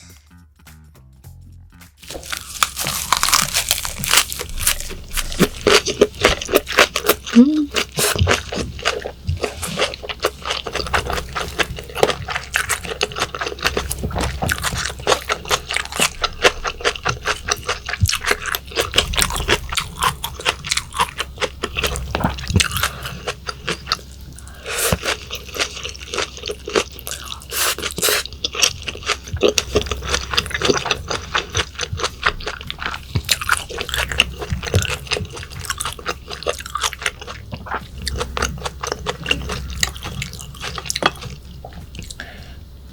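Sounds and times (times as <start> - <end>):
person chewing crunchy food: 2.0 - 42.7.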